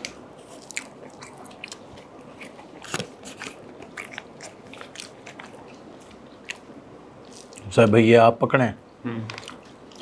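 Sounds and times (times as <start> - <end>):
person chewing food: 0.0 - 7.7, 9.2 - 10.0.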